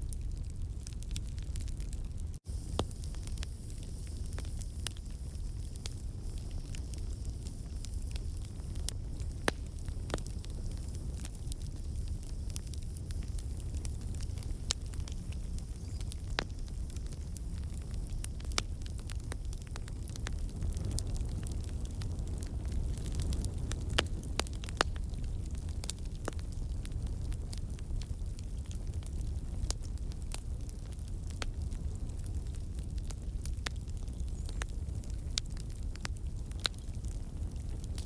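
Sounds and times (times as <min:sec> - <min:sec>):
campfire crackling: 0:00.0 - 0:38.0
low rumble of flames: 0:00.0 - 0:38.0.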